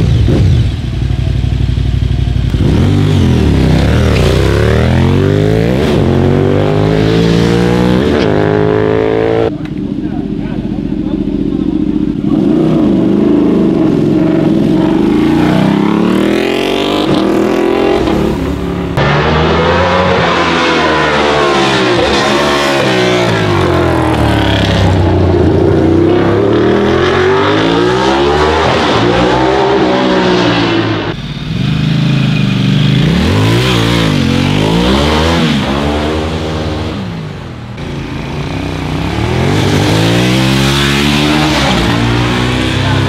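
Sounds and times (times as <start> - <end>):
motorcycle engines revving: 0.0 - 43.0.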